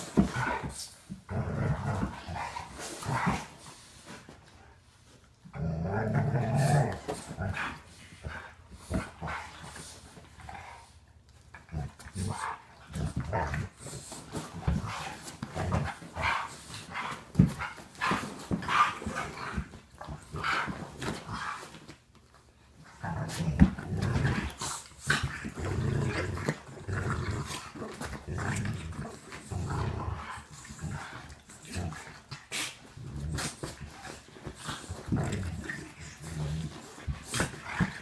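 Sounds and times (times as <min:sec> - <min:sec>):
dogs play growling and grunting: 0:00.0 - 0:38.0.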